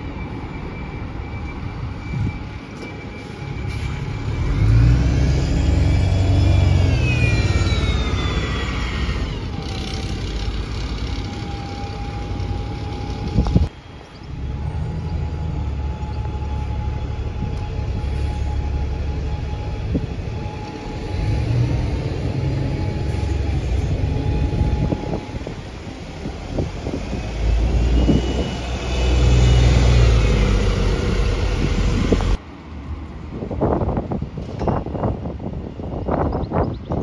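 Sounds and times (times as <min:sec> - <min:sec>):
bus engine rumbling past: 0:01.8 - 0:36.3.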